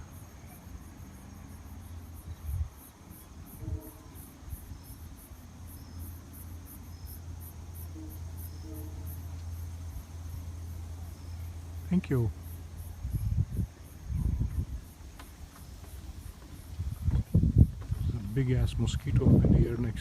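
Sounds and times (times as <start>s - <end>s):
insects chirping: 0.0s - 20.0s
low steady rumble: 0.0s - 20.0s.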